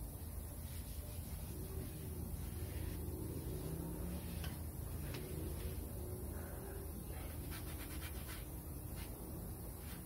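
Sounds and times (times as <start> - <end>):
steady low hum: 0.0 - 10.0
light scrubbing strokes: 0.2 - 10.0.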